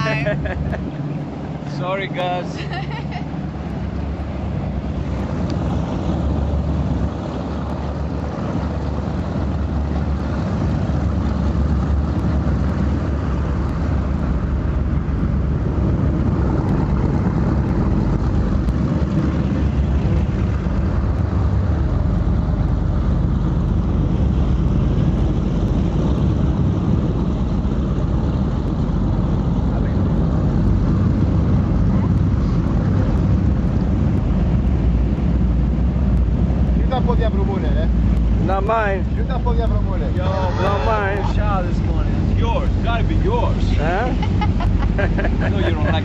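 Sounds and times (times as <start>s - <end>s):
boat engine drone: 0.0s - 46.0s
water rushing against hull: 0.0s - 46.0s
wind on microphone: 0.0s - 46.0s.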